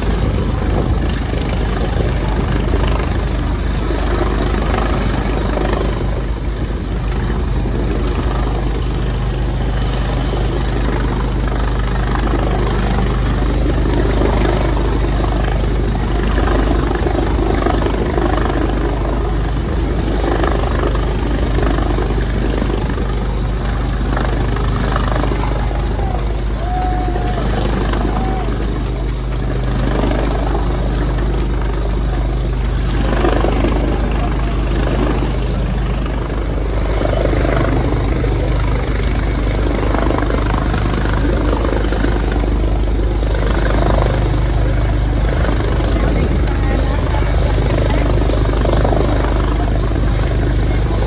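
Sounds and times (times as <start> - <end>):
helicopter hovering: 0.0 - 51.0.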